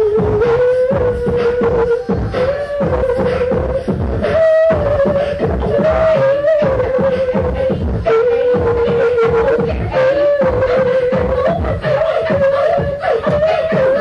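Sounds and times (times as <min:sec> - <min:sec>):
beatboxing kick and snare: 0:00.0 - 0:14.0.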